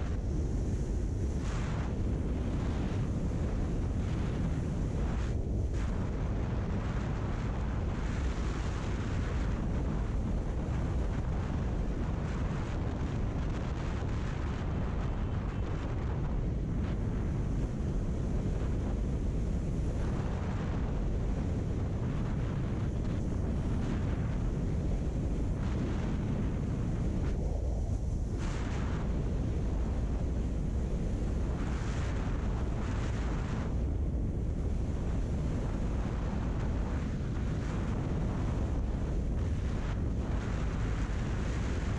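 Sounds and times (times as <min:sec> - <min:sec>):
wind rumble on microphone: 0:00.0 - 0:41.9.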